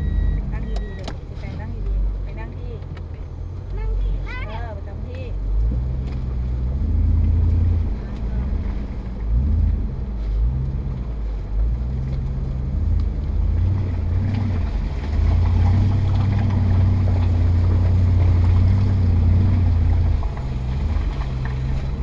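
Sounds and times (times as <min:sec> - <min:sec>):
off-road vehicle engine droning: 0:00.0 - 0:22.0.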